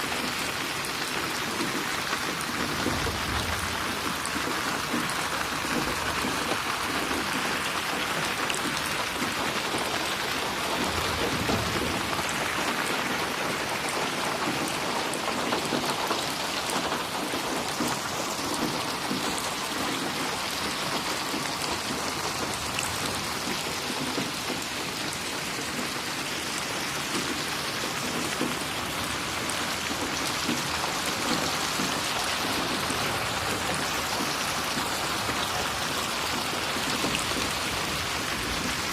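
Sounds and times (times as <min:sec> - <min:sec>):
rain splashing on a surface: 0:00.0 - 0:38.9.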